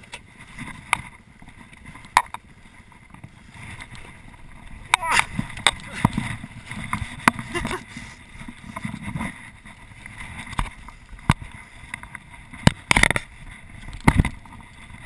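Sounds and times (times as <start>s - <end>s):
knocks and clatter of dirt bike: 0.0s - 15.0s.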